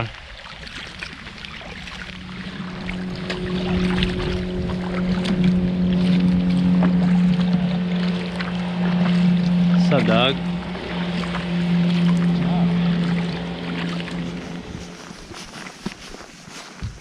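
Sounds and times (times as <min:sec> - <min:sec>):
motorboat engine hum: 0:00.0 - 0:17.0
water noise: 0:00.0 - 0:17.0.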